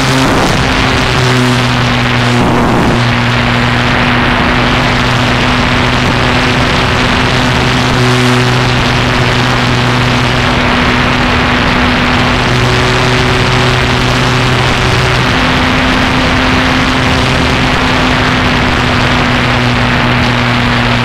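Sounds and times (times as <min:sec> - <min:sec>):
propeller aircraft engine: 0:00.0 - 0:21.0
wind rushing over microphone: 0:00.0 - 0:21.0.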